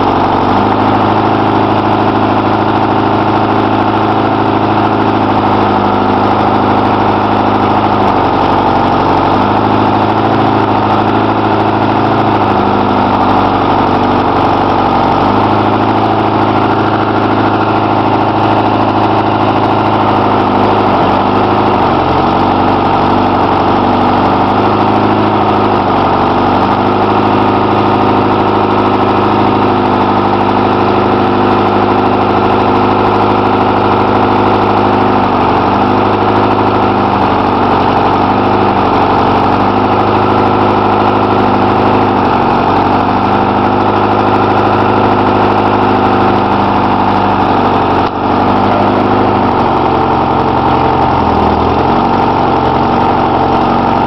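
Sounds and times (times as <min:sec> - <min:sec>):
logging machine engine idling: 0:00.0 - 0:54.0.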